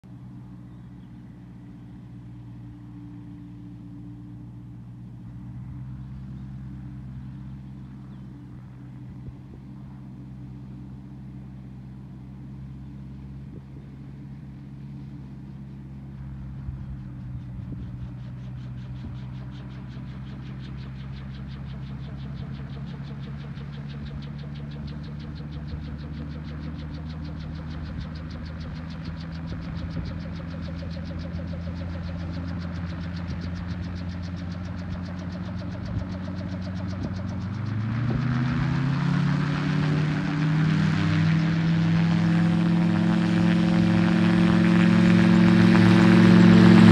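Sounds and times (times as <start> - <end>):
engine and propeller running: 0.0 - 46.9.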